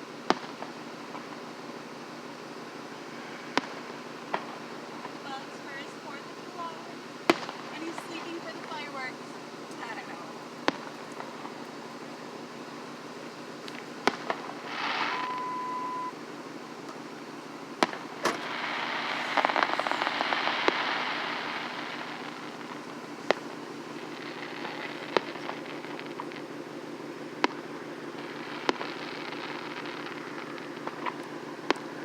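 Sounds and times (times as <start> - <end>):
crackling fireworks: 0.0 - 32.0
fireworks bangs: 0.0 - 32.0.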